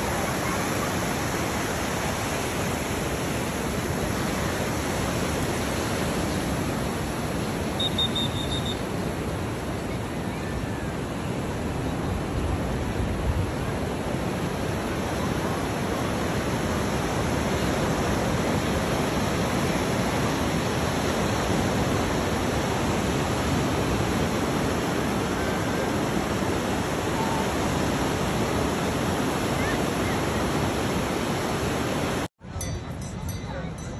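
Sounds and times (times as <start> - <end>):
waves breaking on sand: 0.0 - 32.3.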